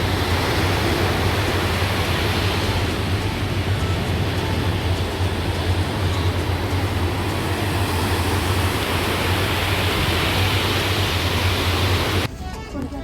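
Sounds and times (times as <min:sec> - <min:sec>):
sea surf rushing: 0:00.0 - 0:12.3.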